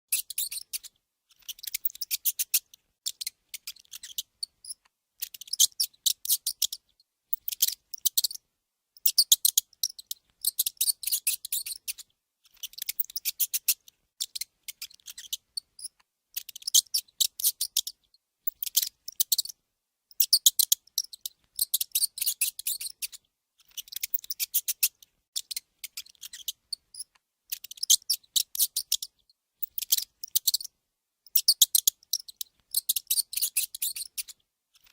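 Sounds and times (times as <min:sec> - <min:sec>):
mouse squeaking: 0:00.1 - 0:08.4, 0:09.0 - 0:34.9.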